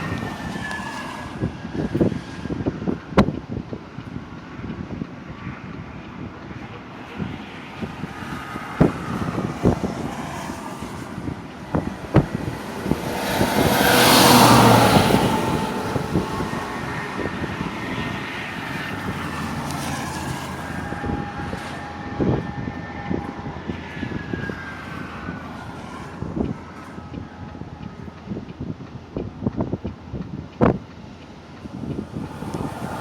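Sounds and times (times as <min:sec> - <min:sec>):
vehicle passing: 0:05.6 - 0:29.7, 0:30.5 - 0:33.0.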